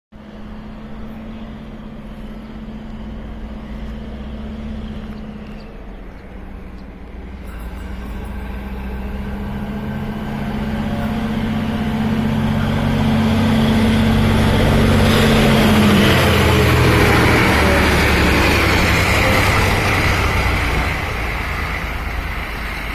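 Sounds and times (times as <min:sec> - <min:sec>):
diesel locomotive engine droning: 0:00.2 - 0:22.9.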